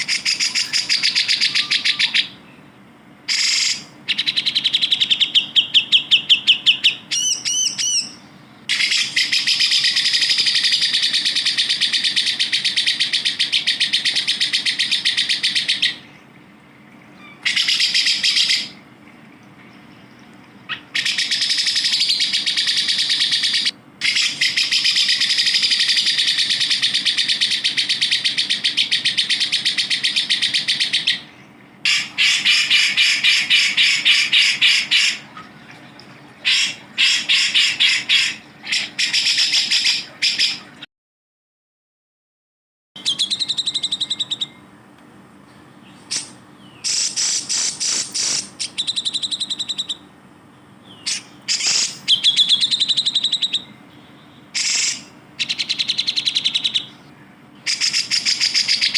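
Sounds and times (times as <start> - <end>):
bulbul singing fast trills: 0.0 - 16.3, 17.2 - 18.8, 19.7 - 35.3, 43.0 - 44.7, 45.7 - 58.9.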